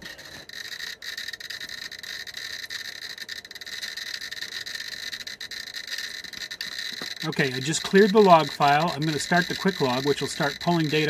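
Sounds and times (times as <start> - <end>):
geiger counter clicking: 0.0 - 11.0
steady high tone: 0.0 - 11.0.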